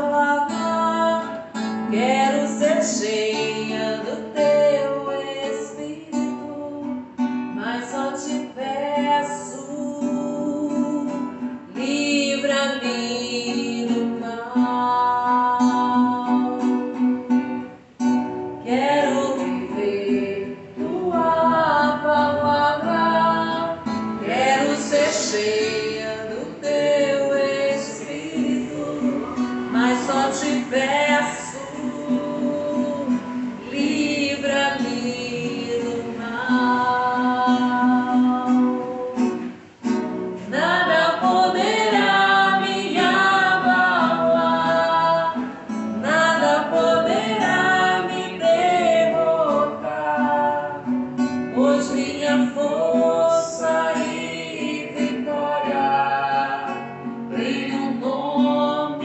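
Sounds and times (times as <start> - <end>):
strummed acoustic guitar: 0.0 - 59.0
woman singing: 0.0 - 59.0.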